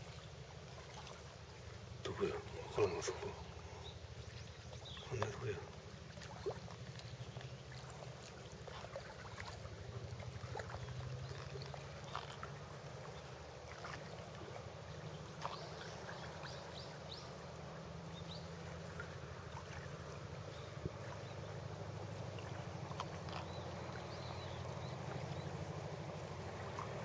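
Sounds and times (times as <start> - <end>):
distant motorboat engine drone: 0.0 - 27.0
water lapping: 0.0 - 27.0.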